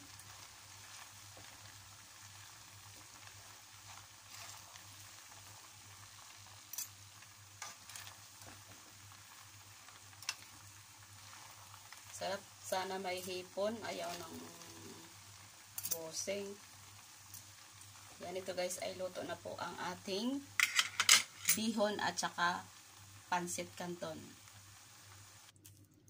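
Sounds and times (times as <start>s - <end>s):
noodles sizzling in a frying pan: 0.0s - 25.8s.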